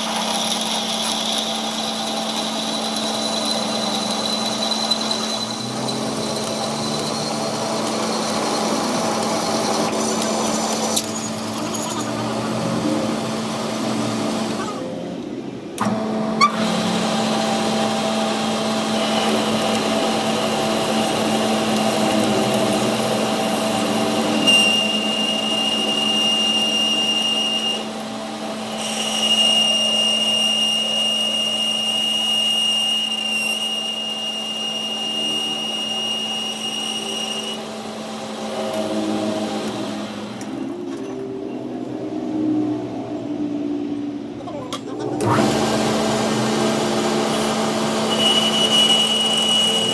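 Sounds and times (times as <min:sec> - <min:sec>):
power machine humming: 0:00.0 - 0:42.0, 0:44.8 - 0:49.9
high-pitched whine: 0:00.0 - 0:49.9.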